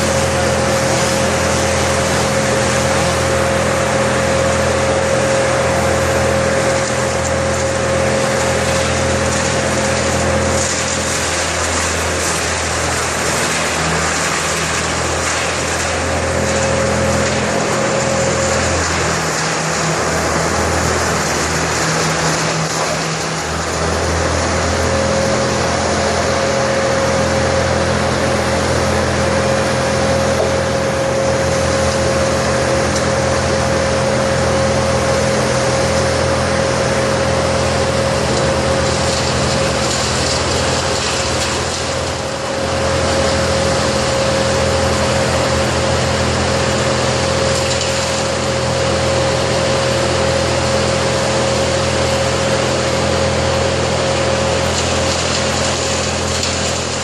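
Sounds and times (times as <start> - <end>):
engine-driven machinery whining: 0.0 - 57.0.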